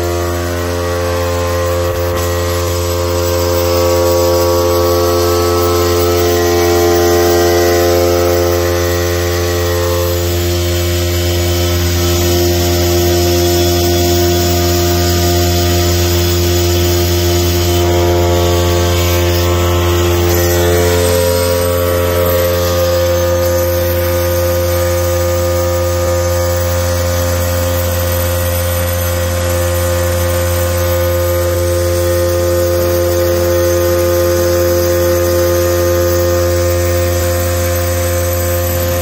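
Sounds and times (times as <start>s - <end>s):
vibrating motor humming and buzzing: 0.0s - 39.0s.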